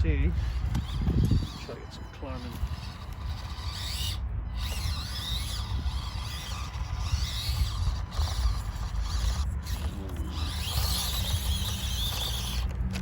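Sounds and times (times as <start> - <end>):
ratchety mechanical chatter: 0.0 - 13.0
small electric motor whining: 0.0 - 13.0
steady low rumble: 0.0 - 13.0.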